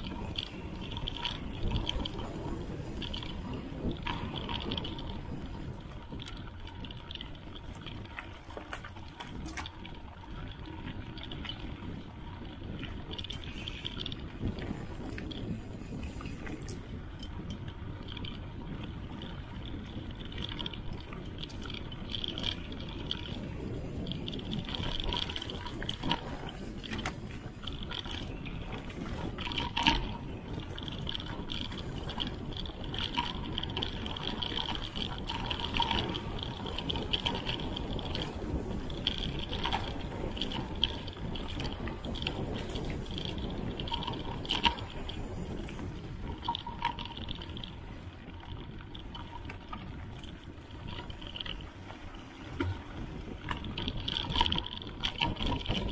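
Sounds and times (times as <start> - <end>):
bike rattling and knocking: 0.0 - 55.9.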